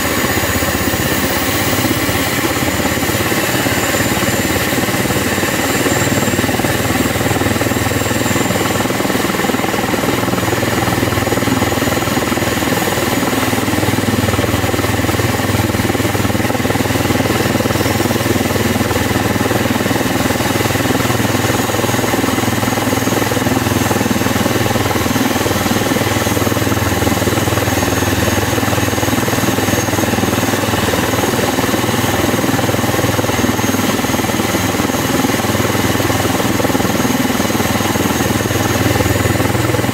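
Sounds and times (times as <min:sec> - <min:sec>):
helicopter engine and rotor: 0:00.0 - 0:39.9
turbine whine: 0:00.0 - 0:39.9.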